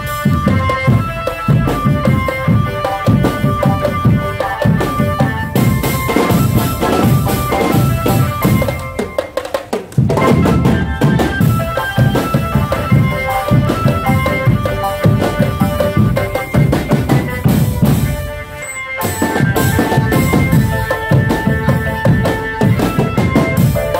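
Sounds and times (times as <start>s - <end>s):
bass and snare drums beating: 0.0s - 23.9s
melody of held notes: 0.0s - 23.9s.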